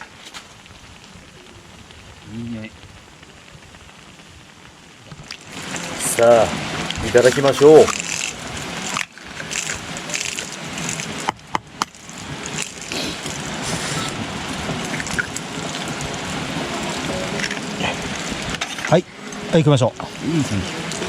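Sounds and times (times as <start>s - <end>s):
heavy rain on tent fabric: 0.0s - 21.0s.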